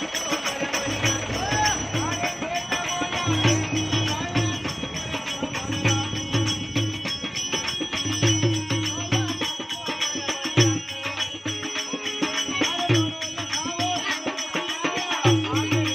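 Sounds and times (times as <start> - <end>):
repeating drum beat: 0.0 - 15.9.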